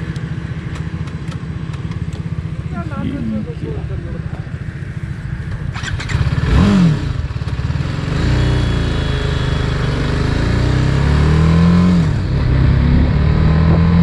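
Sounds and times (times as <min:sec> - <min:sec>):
motorcycle engine idling and accelerating: 0:00.0 - 0:14.0.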